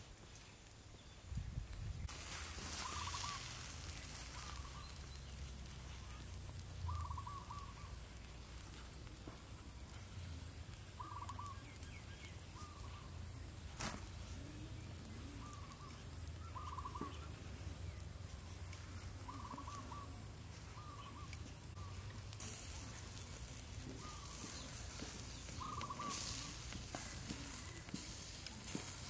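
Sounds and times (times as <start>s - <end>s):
birds calling: 2.3s - 8.7s, 10.9s - 29.0s.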